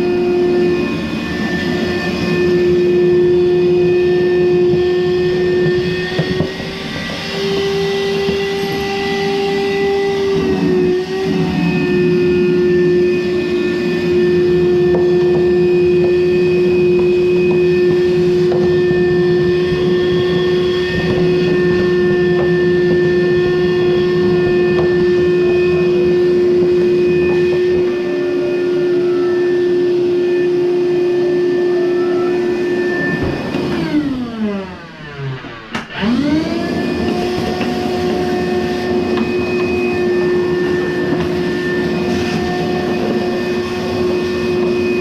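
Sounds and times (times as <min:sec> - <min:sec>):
clothes dryer running: 0:00.0 - 0:45.0.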